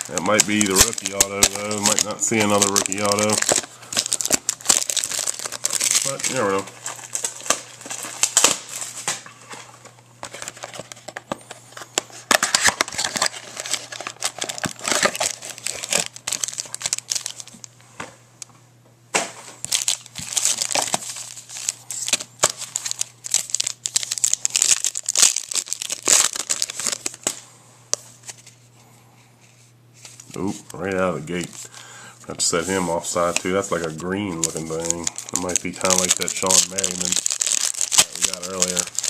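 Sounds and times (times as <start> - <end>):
plastic wrapping crinkling and tearing: 0.0 - 17.8, 19.6 - 27.4, 30.0 - 31.8, 32.4 - 39.0.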